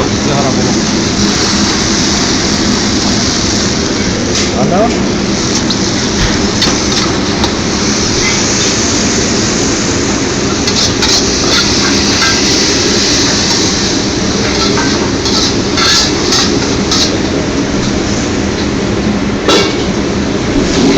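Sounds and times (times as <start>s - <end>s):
food sizzling in wok: 0.0s - 4.4s, 5.1s - 18.8s
gas burner roaring: 0.0s - 20.9s.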